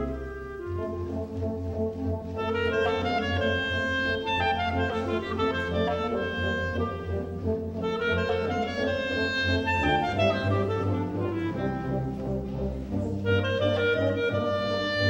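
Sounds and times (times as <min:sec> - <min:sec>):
solo clarinet: 0:00.0 - 0:15.0
wind ensemble chords: 0:00.0 - 0:15.0.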